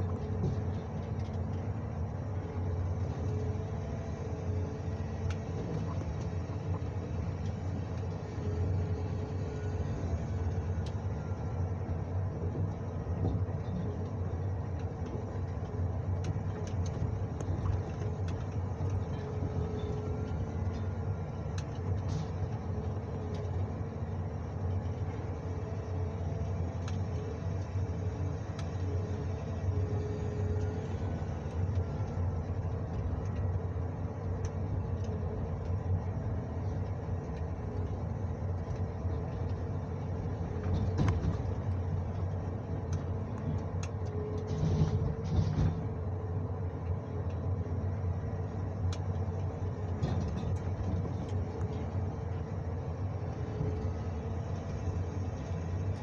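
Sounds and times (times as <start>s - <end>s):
diesel engine running: 0.0s - 56.0s
faint hydraulic whine: 2.3s - 14.3s, 17.3s - 56.0s.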